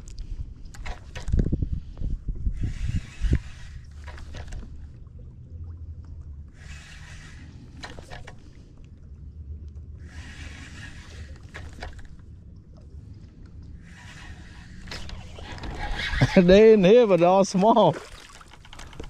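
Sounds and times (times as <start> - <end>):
wind rumble on microphone: 0.0 - 16.9
water swishing: 2.6 - 19.0.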